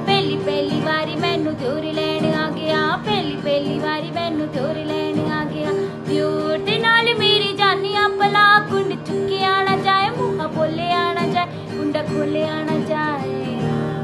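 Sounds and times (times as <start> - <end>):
strummed acoustic guitar: 0.0 - 14.0
woman singing: 0.0 - 14.0.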